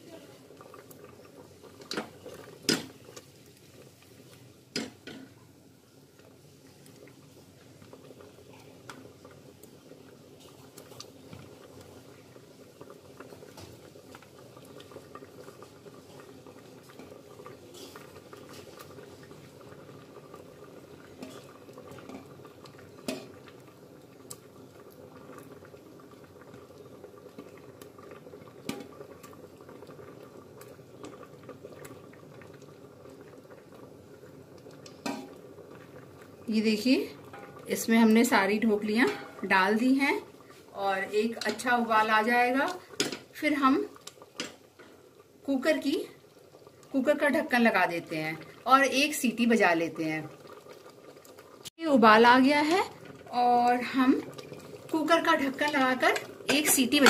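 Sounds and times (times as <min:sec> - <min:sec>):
lentils bubbling at a boil: 0:00.0 - 0:57.0.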